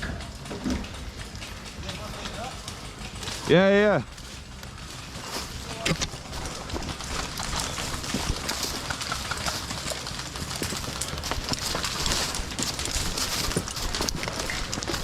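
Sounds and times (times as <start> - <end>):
continuous rustle: 0.0 - 15.0
gear knocking: 0.0 - 15.0
footsteps crunching on ground: 1.7 - 15.0.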